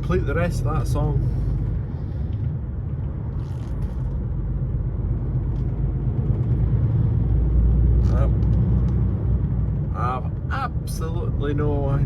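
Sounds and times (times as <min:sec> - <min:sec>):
lorry diesel engine rumble: 0:00.0 - 0:12.0
road noise: 0:00.0 - 0:12.0.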